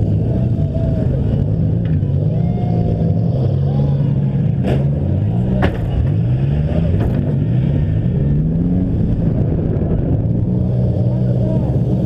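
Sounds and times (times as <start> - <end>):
engines revving: 0.0 - 12.0.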